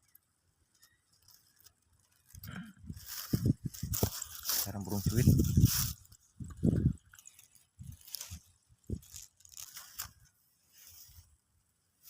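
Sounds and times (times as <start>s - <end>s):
rustling and scraping: 0.6s - 12.0s.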